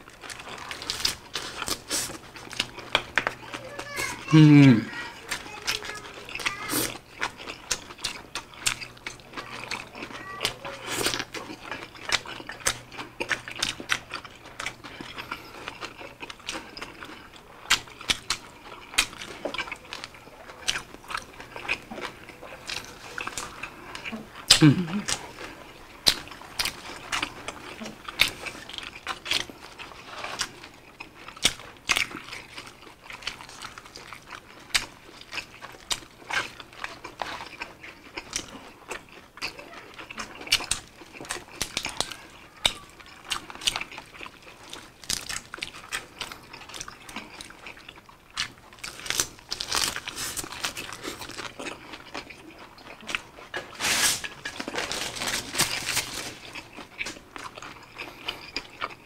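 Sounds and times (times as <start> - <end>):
chewing and crunching: 0.0 - 59.0.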